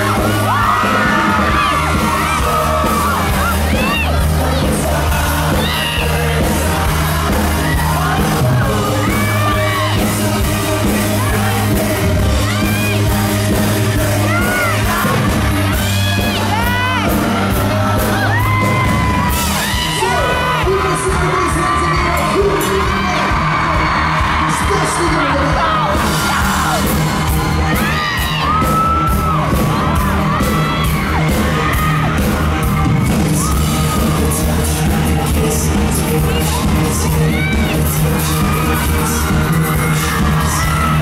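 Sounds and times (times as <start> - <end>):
fans yelling and screaming: 0.0 - 41.0
live pop band playing: 0.0 - 41.0.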